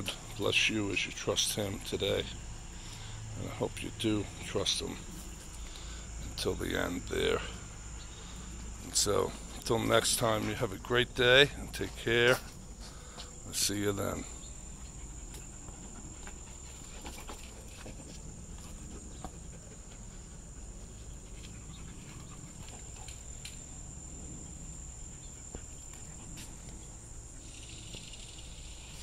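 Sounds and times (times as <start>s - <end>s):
high-pitched insect trill: 0.0s - 29.0s.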